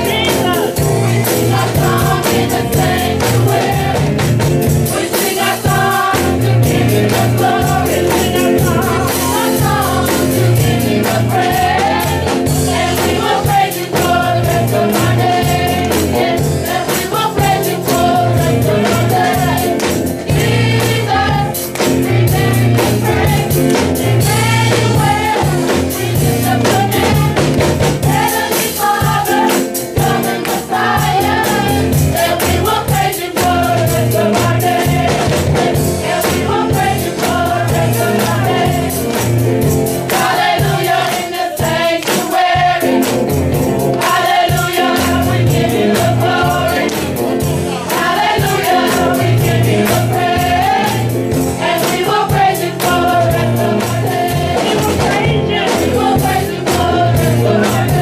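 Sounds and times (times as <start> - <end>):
choir singing gospel: 0.0 - 58.0
instrumental accompaniment with beat: 0.0 - 58.0.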